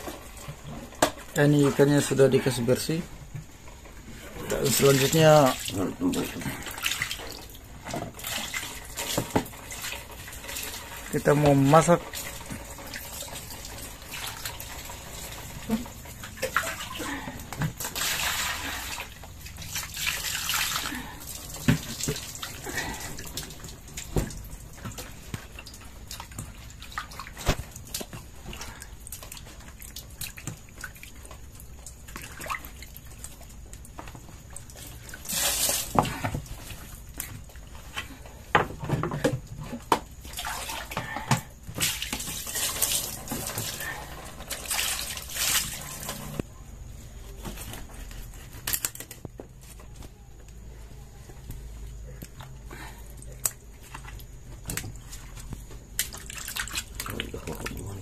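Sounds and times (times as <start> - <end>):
water splashing onto wooden floor: 4.4 - 46.5, 52.2 - 58.0.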